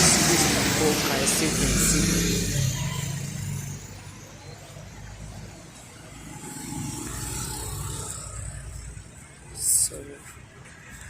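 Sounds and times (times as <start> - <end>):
passing car engines: 0.0 - 9.6.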